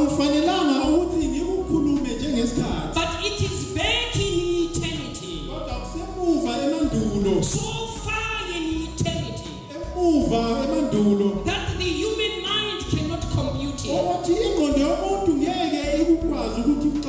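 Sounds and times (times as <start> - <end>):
man preaching over loudspeaker: 0.0 - 17.0.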